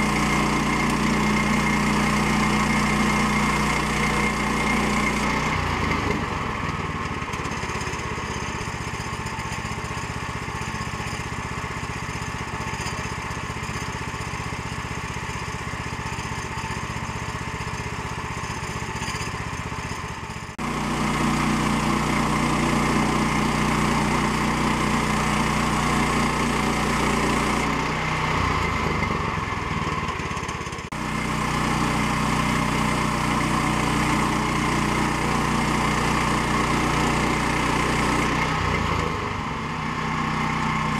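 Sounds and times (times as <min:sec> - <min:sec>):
gasoline engine running: 0:00.0 - 0:40.9.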